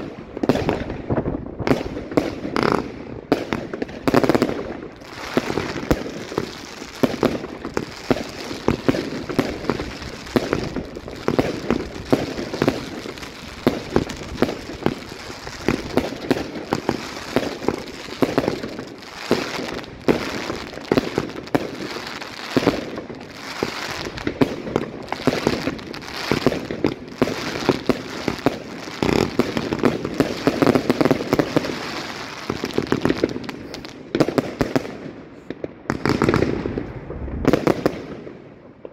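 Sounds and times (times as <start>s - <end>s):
firework launches and bursts: 1.7s - 34.6s.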